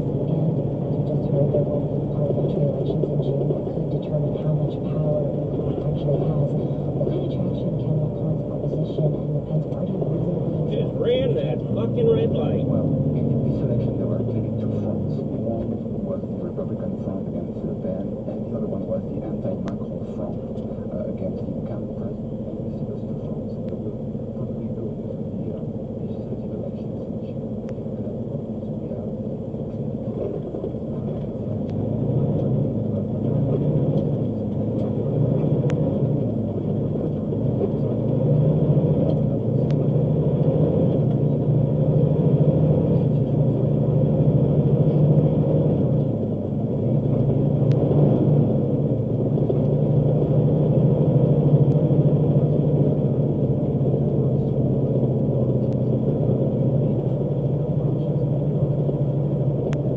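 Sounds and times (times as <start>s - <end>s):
vehicle engine and road drone: 0.0s - 59.9s.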